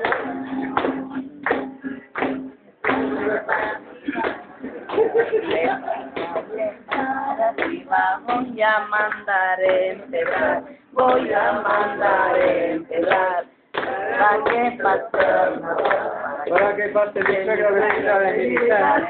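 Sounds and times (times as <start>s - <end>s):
men and women singing: 0.0s - 19.0s.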